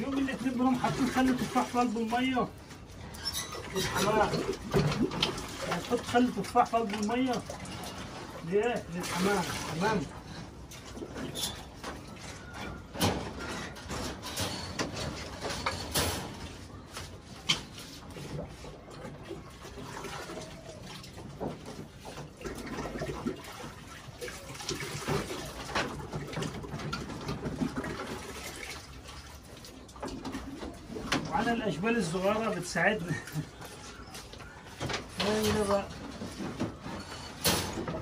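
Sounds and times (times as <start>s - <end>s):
water pouring and sloshing: 0.0s - 38.0s.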